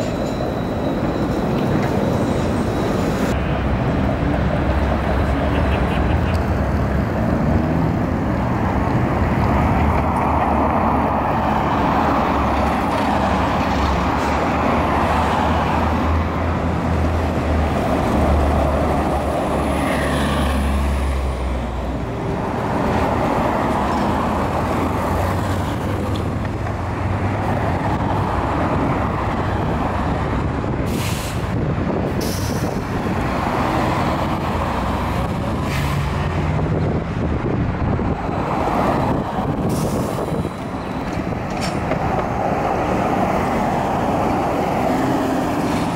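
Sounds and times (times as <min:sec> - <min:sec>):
tyre and road noise: 0:00.0 - 0:45.9.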